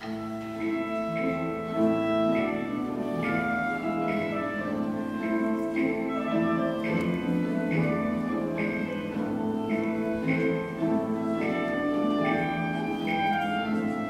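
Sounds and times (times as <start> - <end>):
orchestra playing: 0.0 - 14.0.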